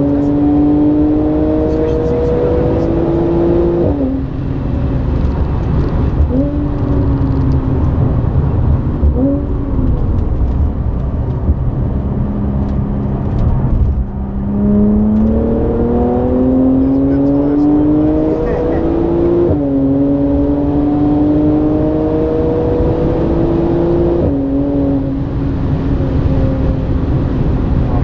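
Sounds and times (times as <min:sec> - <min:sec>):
car engine accelerating: 0:00.0 - 0:28.0
road and tyre rumble: 0:00.0 - 0:28.0.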